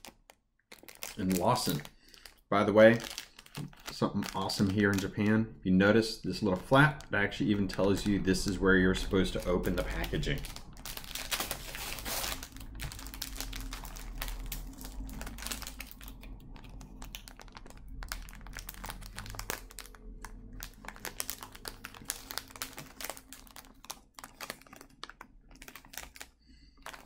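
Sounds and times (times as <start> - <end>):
plastic wrapping crinkling: 0.0 - 5.4, 6.2 - 27.0.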